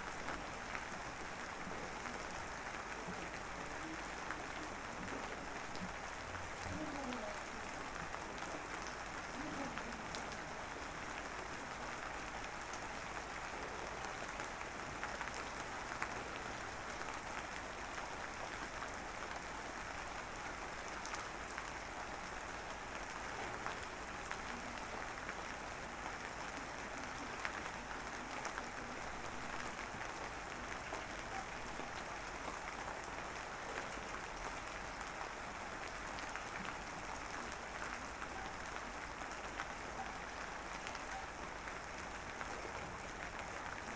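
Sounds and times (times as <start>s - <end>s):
light drizzle pattering: 0.0s - 43.9s.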